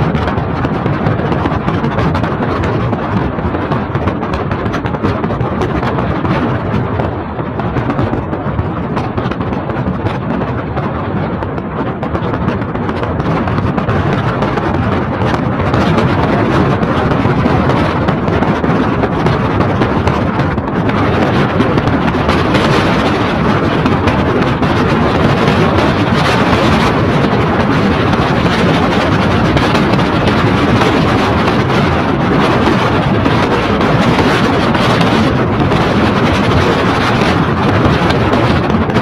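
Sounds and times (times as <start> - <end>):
wind rushing: 0.0 - 39.0.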